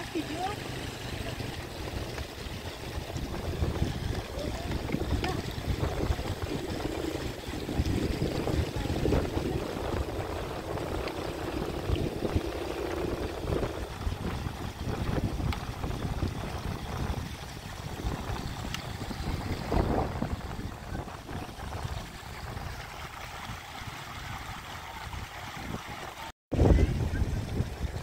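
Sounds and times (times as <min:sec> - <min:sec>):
stream running over rocks: 0:00.0 - 0:28.0
wind rumble on microphone: 0:00.0 - 0:28.0.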